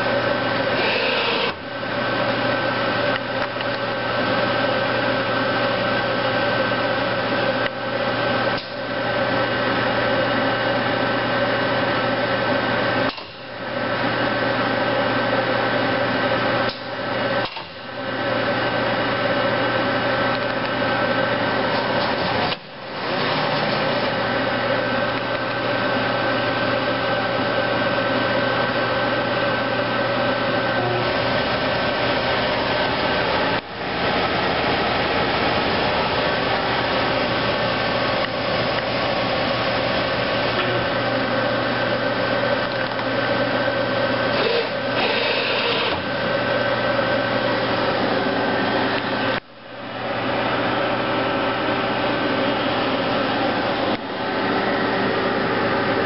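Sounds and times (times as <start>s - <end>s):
machining center mechanical whir: 0.0s - 56.0s.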